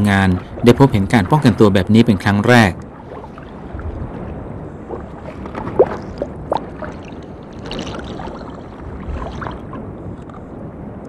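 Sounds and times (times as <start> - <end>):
underwater water rumble: 0.0 - 11.0.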